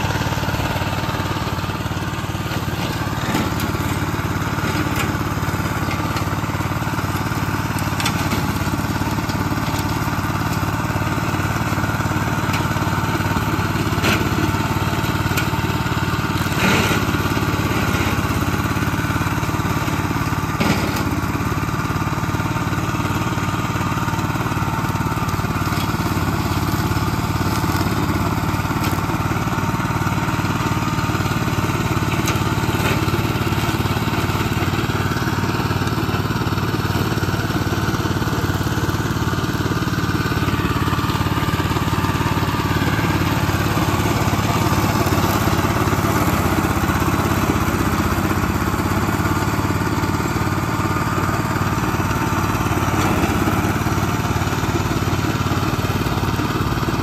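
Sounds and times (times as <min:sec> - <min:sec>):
spinning mower blades cutting brush: 0:00.0 - 0:57.0
tractor engine running under load: 0:00.0 - 0:57.0.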